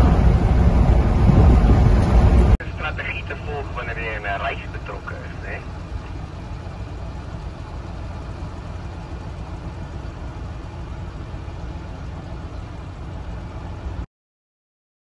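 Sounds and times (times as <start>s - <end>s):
vehicle engine idling: 0.0s - 14.1s.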